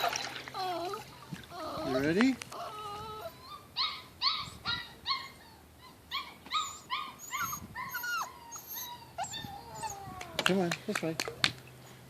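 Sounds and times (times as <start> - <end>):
puppy whining: 0.0 - 10.6.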